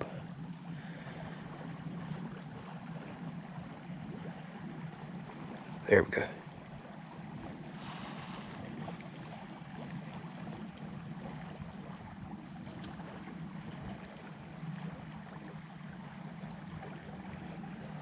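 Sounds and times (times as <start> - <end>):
constant low hum: 0.0 - 18.0
moving water hiss: 0.0 - 18.0.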